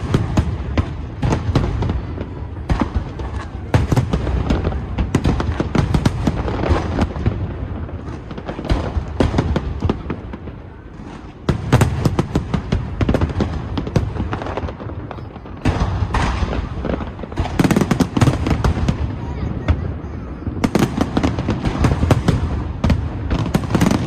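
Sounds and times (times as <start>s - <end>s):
fireworks cracking and booming: 0.0s - 24.0s.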